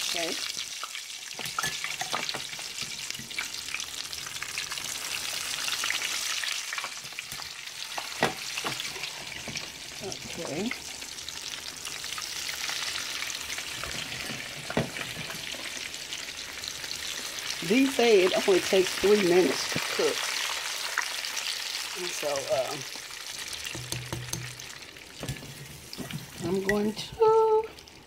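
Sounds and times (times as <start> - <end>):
hot oil sizzling: 0.0 - 28.0.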